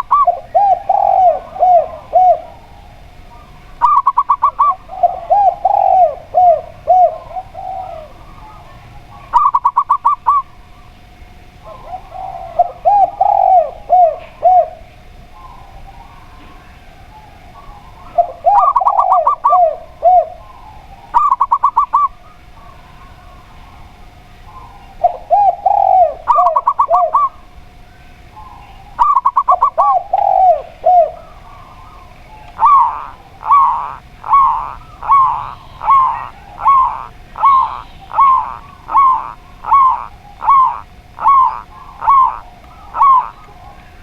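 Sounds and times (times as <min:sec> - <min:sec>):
doves cooing: 0:00.0 - 0:44.0.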